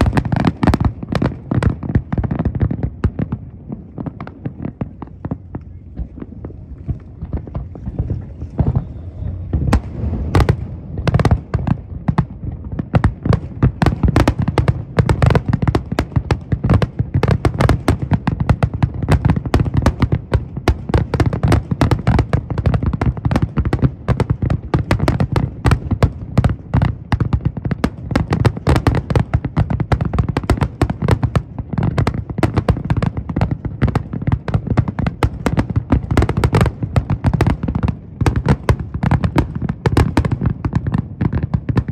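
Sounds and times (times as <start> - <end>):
fireworks bursts and crackle: 0.0 - 41.9.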